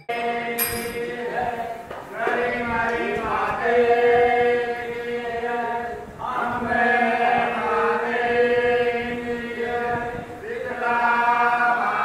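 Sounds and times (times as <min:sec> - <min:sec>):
chanted vocal music: 0:00.0 - 0:12.0.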